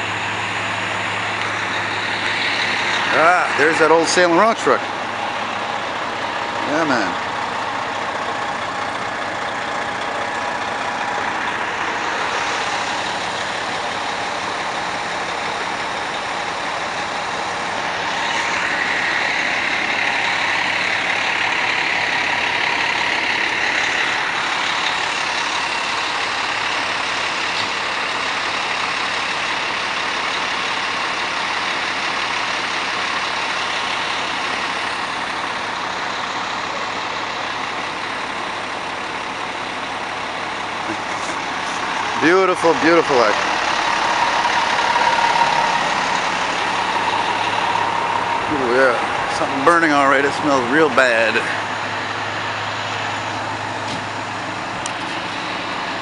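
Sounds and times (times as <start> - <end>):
fire truck diesel engines running: 0.0 - 56.0.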